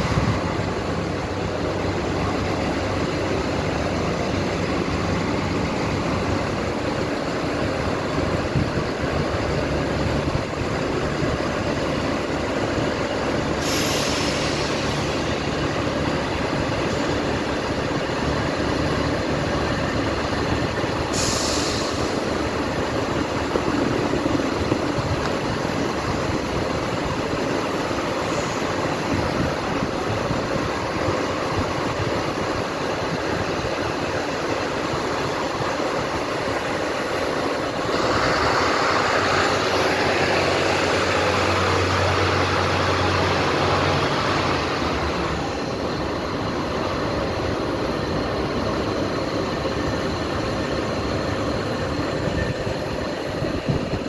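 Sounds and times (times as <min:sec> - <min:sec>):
diesel railcar engine hum: 0:00.0 - 0:54.0
train running beside platform: 0:00.0 - 0:54.0.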